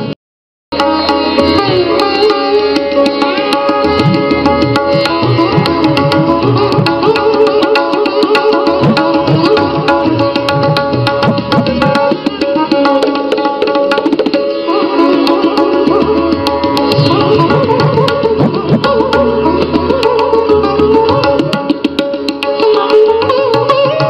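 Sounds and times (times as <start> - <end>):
busy drum pattern: 0.7 - 14.5, 15.2 - 24.0.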